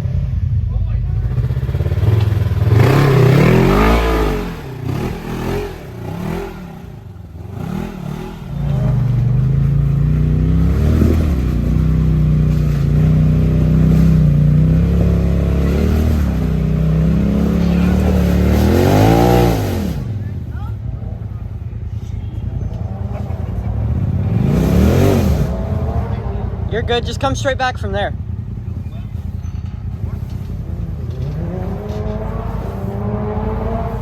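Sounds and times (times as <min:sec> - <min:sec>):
utv engine revving: 0:00.0 - 0:34.0.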